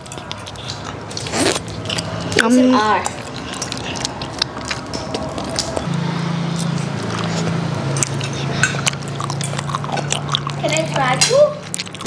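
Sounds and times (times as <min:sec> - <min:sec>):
low steady motor hum: 0:00.0 - 0:12.0.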